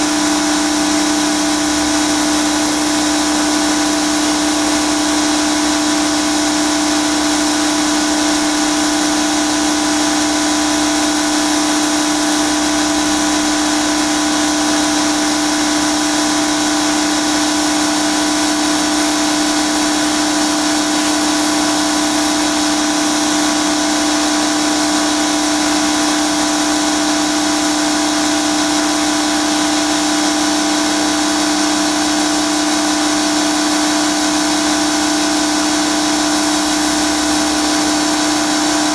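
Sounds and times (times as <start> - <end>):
pressure washer humming: 0.0 - 38.9.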